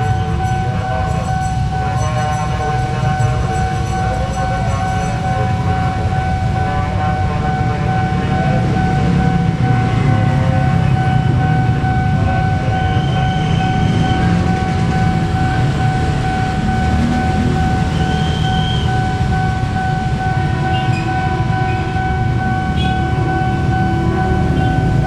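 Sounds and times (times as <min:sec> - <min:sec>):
high steady tone: 0:00.0 - 0:25.0
train rumbling: 0:00.0 - 0:25.0.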